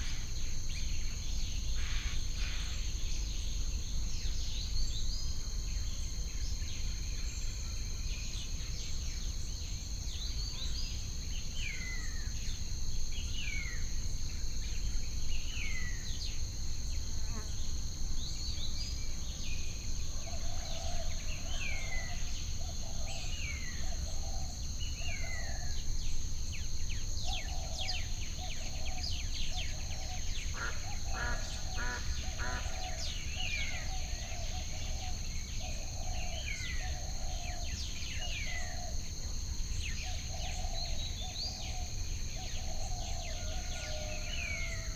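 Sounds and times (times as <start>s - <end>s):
high insect drone: 0.0s - 44.9s.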